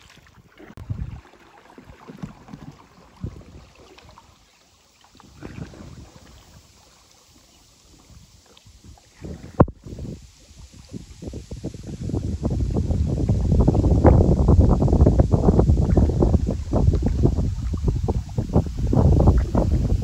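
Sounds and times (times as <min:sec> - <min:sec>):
wind rumbling on microphone: 0:00.0 - 0:04.4, 0:05.1 - 0:20.0
faint water sounds: 0:00.0 - 0:20.0.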